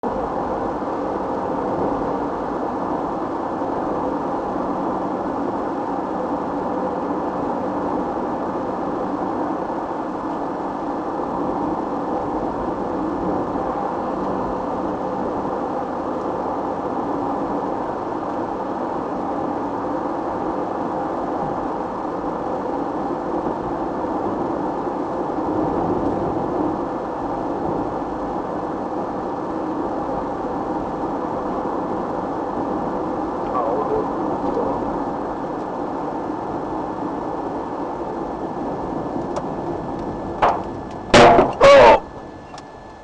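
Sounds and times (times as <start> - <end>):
car road and engine noise: 0.0 - 43.0
faint steady hum: 0.0 - 43.0.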